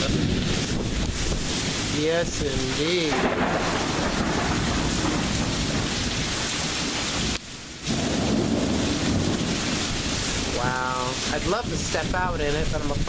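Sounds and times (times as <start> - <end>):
heavy rain: 0.0 - 13.0
wind rumbling on microphone: 0.0 - 13.0.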